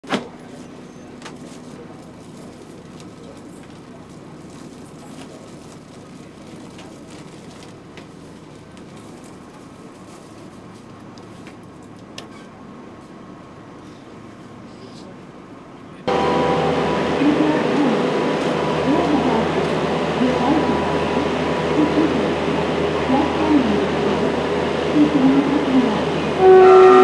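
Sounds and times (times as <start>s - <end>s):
train coach rumble: 0.1s - 27.0s.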